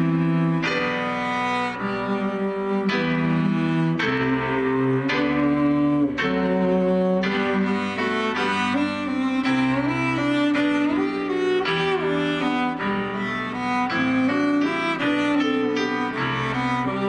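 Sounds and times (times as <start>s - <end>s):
cello bowing long notes: 0.0s - 17.0s
piano chords: 0.0s - 17.0s.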